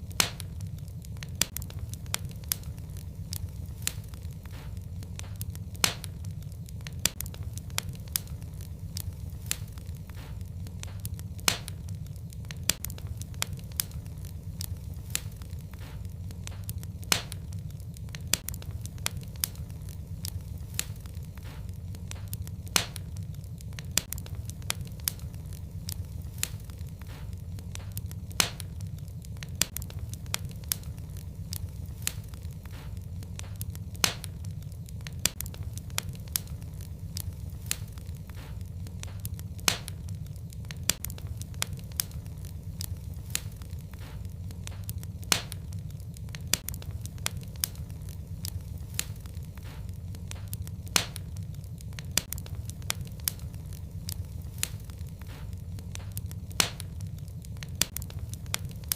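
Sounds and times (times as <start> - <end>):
fire crackling and popping: 0.0 - 58.9
low rumble of flames: 0.0 - 58.9.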